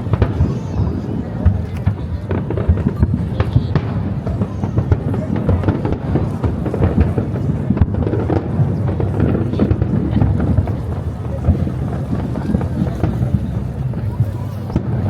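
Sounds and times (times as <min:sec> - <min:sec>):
fireworks booming and cracking: 0:00.0 - 0:15.0.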